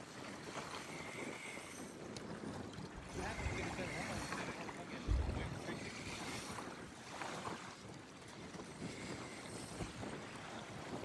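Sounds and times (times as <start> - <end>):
faint wind on microphone: 0.0 - 11.0.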